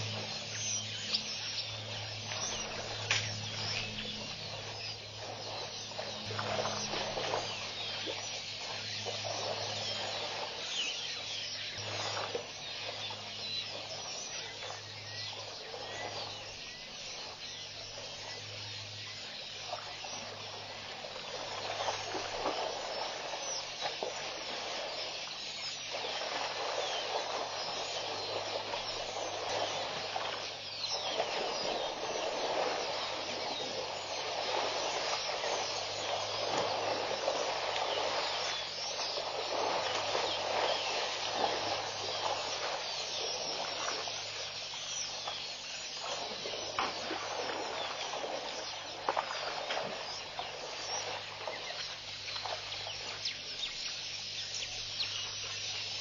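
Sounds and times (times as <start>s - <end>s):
low electrical hum: 0.0s - 56.0s
small birds chirping: 0.0s - 56.0s.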